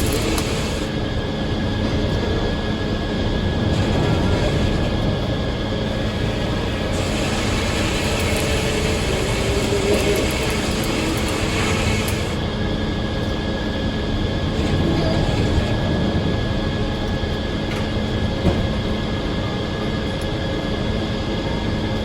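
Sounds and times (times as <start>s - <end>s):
sawmill machinery droning: 0.0s - 21.8s.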